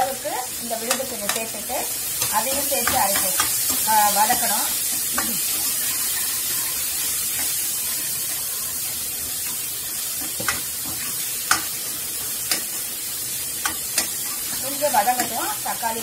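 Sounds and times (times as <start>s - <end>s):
vegetables sizzling in oil: 0.0s - 16.0s
ladle stirring in pan: 2.0s - 15.4s.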